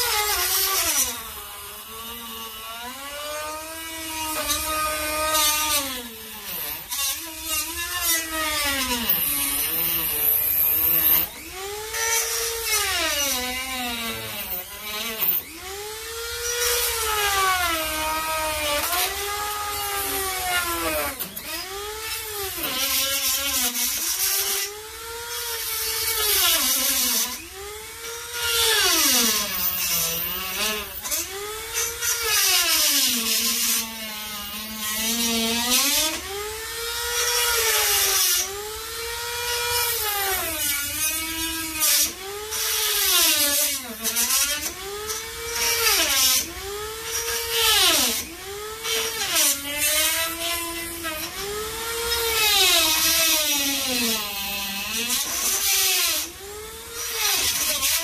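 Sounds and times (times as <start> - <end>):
power tool motor whining: 0.0 - 58.0.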